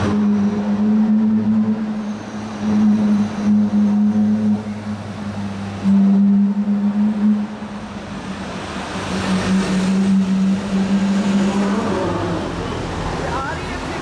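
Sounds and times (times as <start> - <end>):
car engine droning in tunnel: 0.0 - 13.5.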